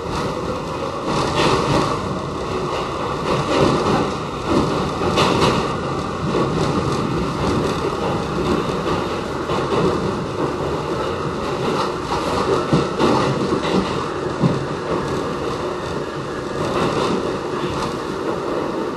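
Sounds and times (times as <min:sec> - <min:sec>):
rumble of wheels on rail: 0:00.0 - 0:18.9
wheels clacking over track: 0:00.0 - 0:18.9.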